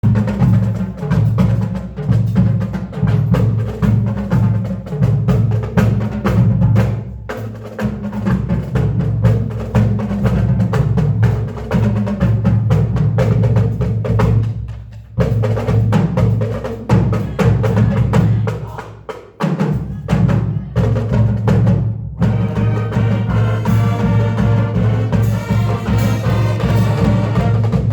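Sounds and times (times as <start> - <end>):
drums playing fast rhythm: 0.0 - 27.9
heavy low drum: 0.0 - 27.9.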